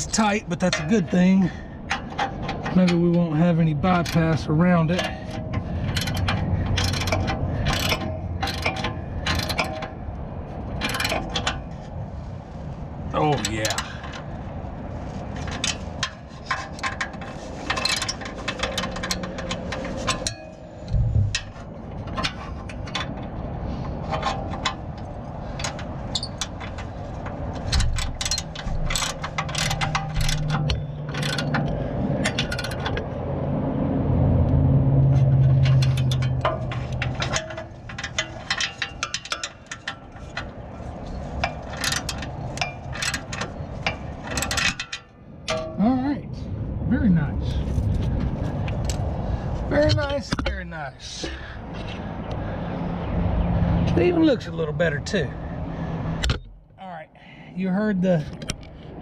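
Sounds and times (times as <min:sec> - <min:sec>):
metal clicking and scraping: 0:00.0 - 0:12.2, 0:13.3 - 0:33.5, 0:34.4 - 0:45.8, 0:47.5 - 0:52.5.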